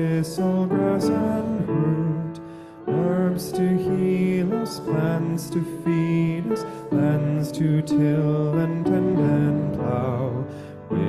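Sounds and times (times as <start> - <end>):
person singing a hymn: 0.0 - 11.0
piano accompaniment: 0.0 - 11.0.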